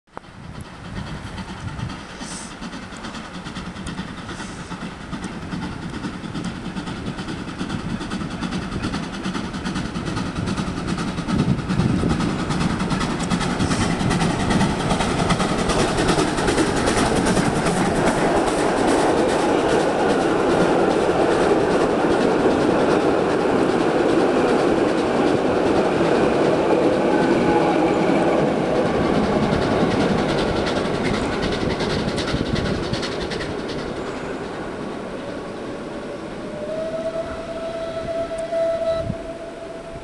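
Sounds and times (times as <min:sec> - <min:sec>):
steam locomotive chuffing: 0:00.1 - 0:40.0.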